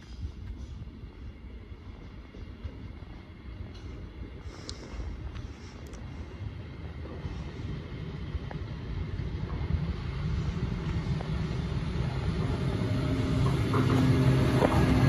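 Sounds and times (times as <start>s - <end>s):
low rail rumble: 0.0s - 15.0s.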